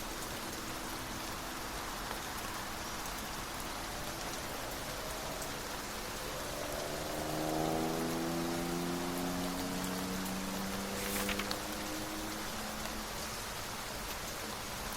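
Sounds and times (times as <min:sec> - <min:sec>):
steady rain hiss: 0:00.0 - 0:14.9.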